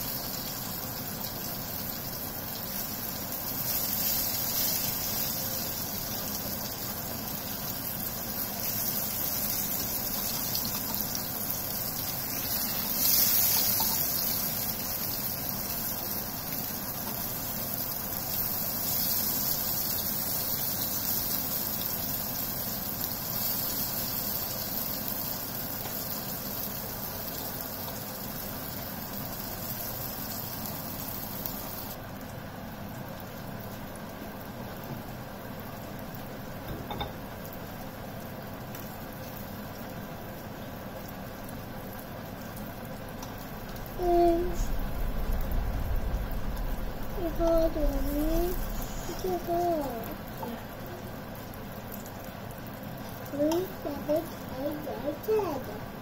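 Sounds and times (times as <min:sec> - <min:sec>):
slices sizzling in oil: 0:00.0 - 0:45.6, 0:47.2 - 0:56.0.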